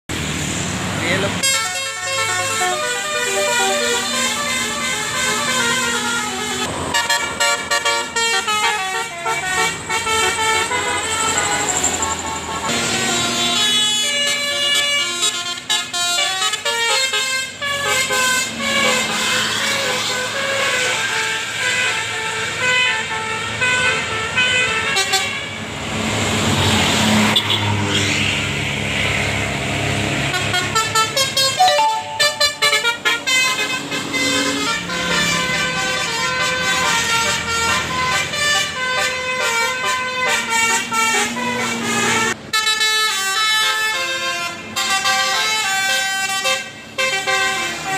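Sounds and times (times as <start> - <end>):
bus passing by: 0.1 - 47.9
bus melody horns: 1.4 - 25.7, 30.2 - 47.9.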